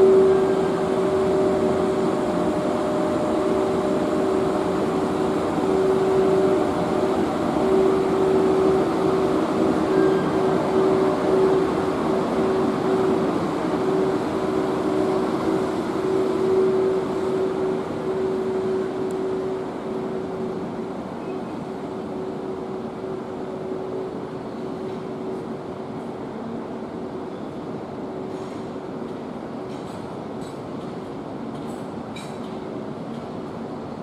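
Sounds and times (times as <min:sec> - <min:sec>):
electric locomotive hum: 0:00.0 - 0:34.0
train wheels on rails: 0:00.0 - 0:34.0.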